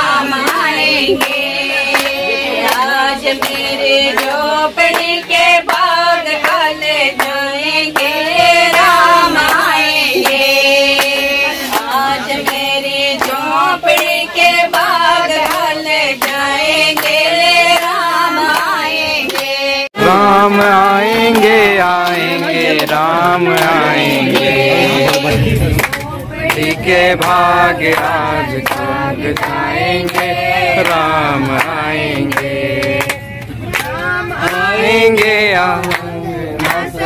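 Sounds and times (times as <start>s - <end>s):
women singing together: 0.0s - 37.0s
hand clapping: 0.2s - 37.0s.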